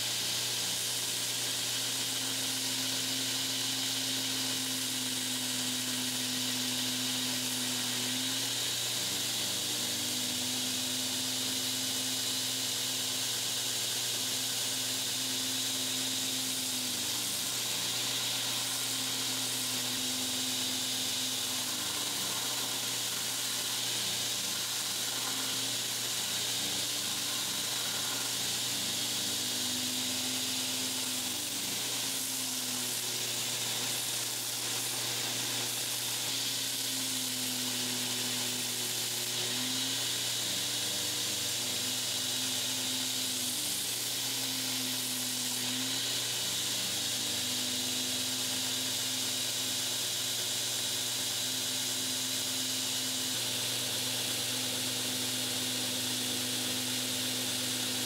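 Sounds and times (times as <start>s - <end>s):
belt grinder grinding wood: 0.0s - 58.0s.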